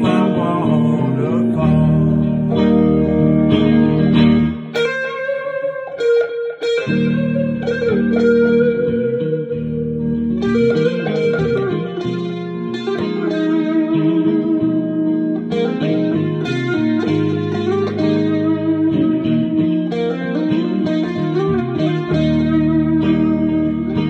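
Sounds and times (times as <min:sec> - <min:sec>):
electric guitar melody: 0:00.0 - 0:24.0.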